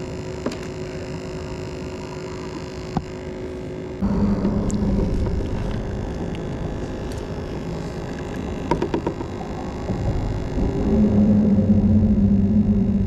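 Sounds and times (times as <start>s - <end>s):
low rumble and hum: 0.0s - 13.0s.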